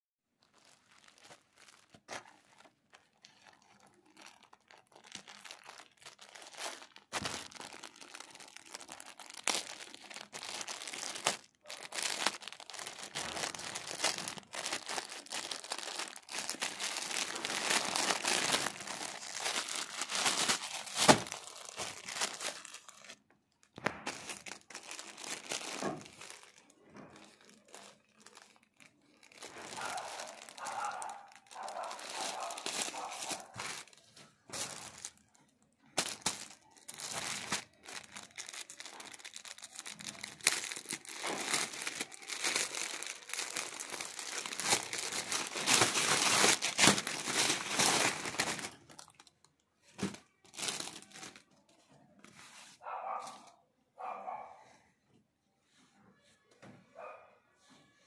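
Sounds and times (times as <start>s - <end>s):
plastic bag crinkling and tearing: 0.4s - 51.6s.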